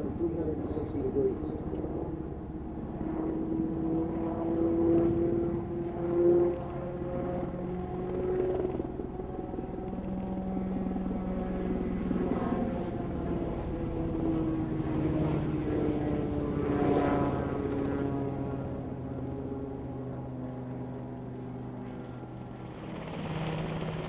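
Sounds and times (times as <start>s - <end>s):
helicopter flying by: 0.0s - 24.0s.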